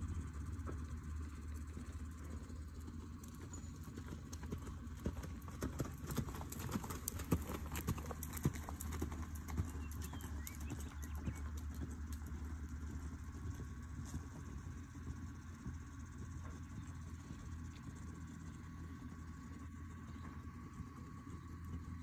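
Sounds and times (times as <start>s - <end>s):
steady low hum: 0.0s - 22.0s
horse hoofbeats on sand: 0.4s - 22.0s.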